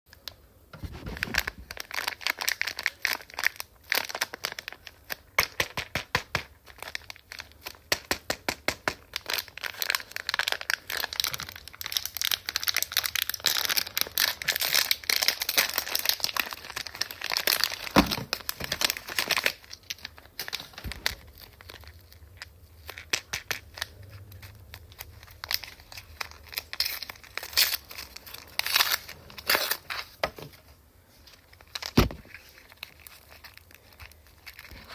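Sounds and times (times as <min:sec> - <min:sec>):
plastic packaging crinkling and tearing: 0:00.2 - 0:34.9.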